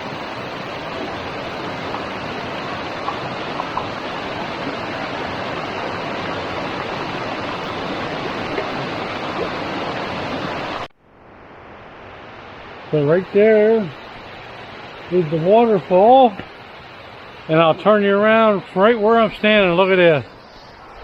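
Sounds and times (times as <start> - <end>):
waterfall rushing: 0.0 - 10.9, 11.6 - 21.0.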